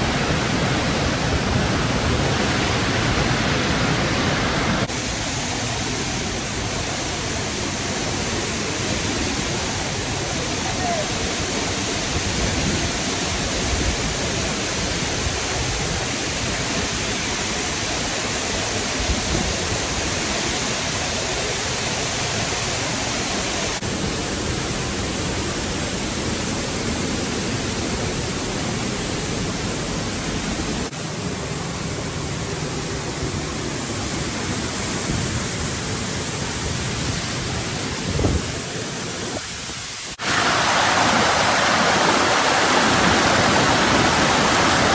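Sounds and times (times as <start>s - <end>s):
waterfall roaring: 0.0s - 44.9s.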